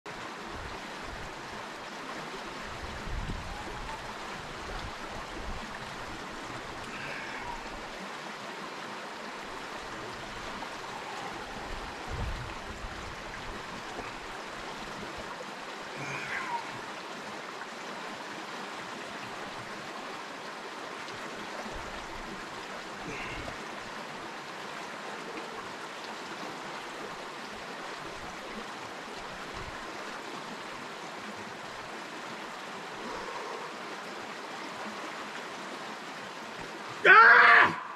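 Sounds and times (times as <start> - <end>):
creek flowing: 0.1 - 37.9.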